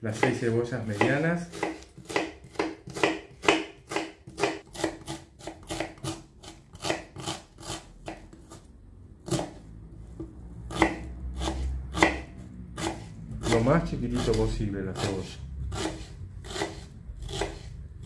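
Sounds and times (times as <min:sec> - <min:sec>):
knife chopping onions: 0:00.0 - 0:09.6, 0:10.2 - 0:18.0.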